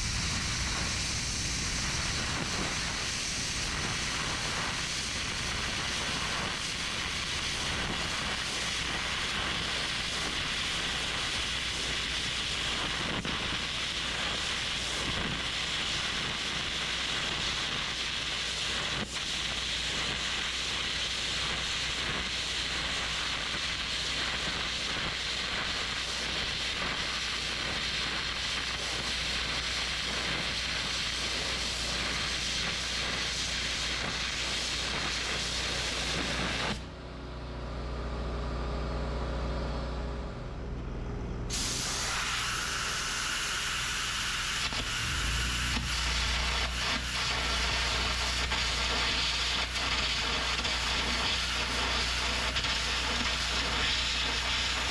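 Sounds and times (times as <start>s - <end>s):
compressed air jet hissing: 0.0s - 36.9s, 41.5s - 54.9s
electric arc crackling: 0.0s - 36.9s, 41.5s - 54.9s.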